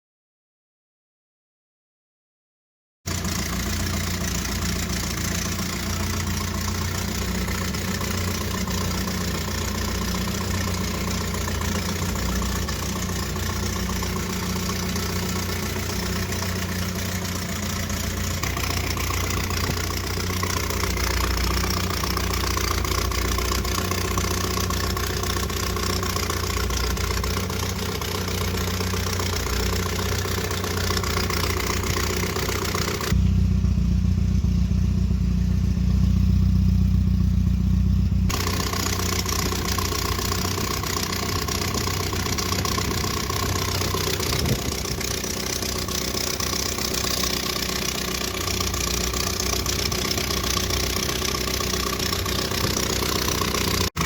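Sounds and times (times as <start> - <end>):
car engine idling: 3.1 - 54.0.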